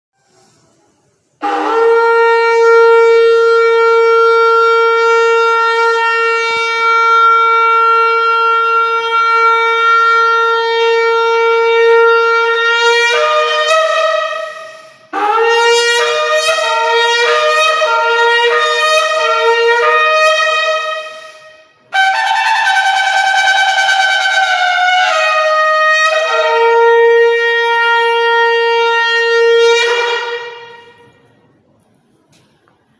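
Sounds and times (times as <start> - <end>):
ram's horn blasts: 1.2 - 31.6.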